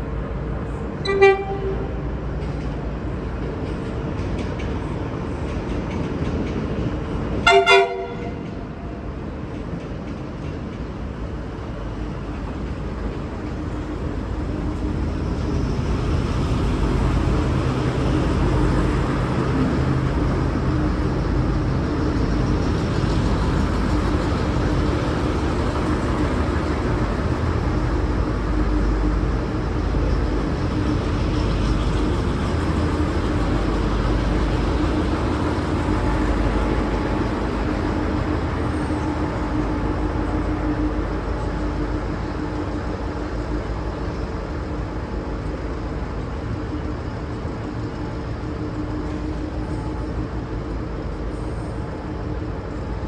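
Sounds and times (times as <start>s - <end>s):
diesel railcar rumbling: 0.0s - 53.0s.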